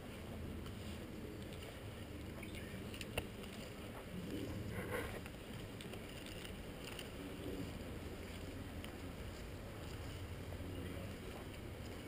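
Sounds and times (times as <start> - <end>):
faint rustles: 0.0 - 12.0.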